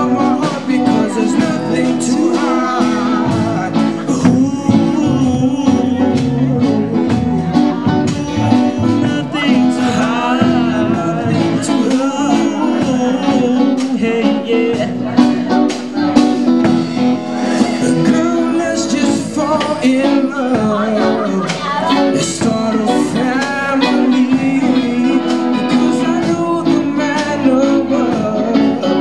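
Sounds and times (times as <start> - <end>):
live band playing: 0.0 - 29.0
person singing: 0.0 - 29.0.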